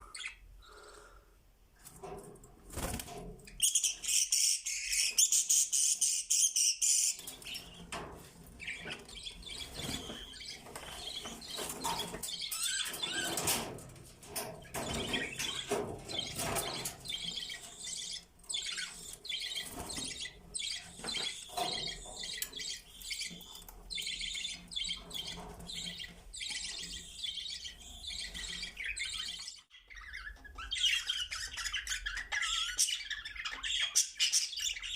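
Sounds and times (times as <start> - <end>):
budgerigars chirping and warbling: 3.5 - 13.8, 14.6 - 34.9.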